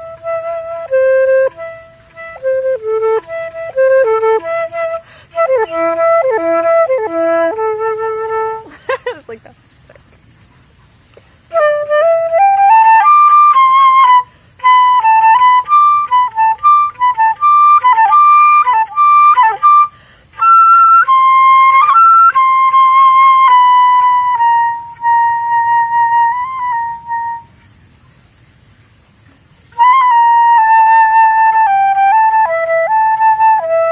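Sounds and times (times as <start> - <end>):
solo flute: 0.0 - 8.8, 11.5 - 27.8, 29.7 - 33.9.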